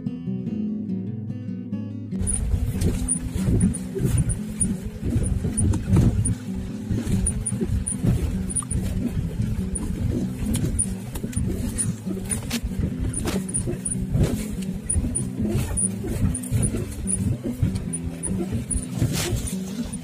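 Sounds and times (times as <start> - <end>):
car engine running: 2.2 - 20.0
car knocks and rattles: 2.2 - 20.0
road rumble: 2.2 - 20.0.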